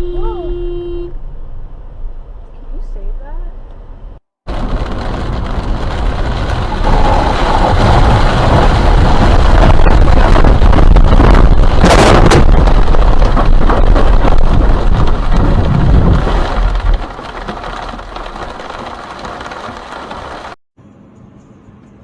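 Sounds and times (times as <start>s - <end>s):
vehicle road and wind noise: 0.0s - 22.0s.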